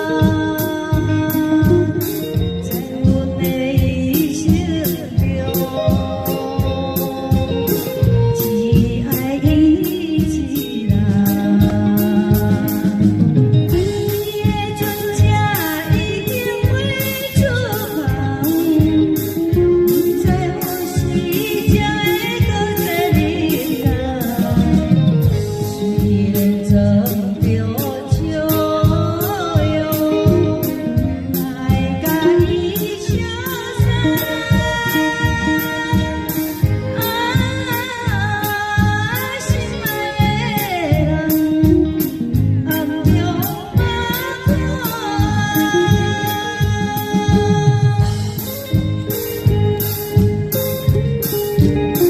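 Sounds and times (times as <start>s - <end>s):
lead vocals: 0.0s - 48.8s
band playing a song: 0.0s - 52.0s
bass: 0.0s - 52.0s
person singing melody: 0.0s - 52.0s.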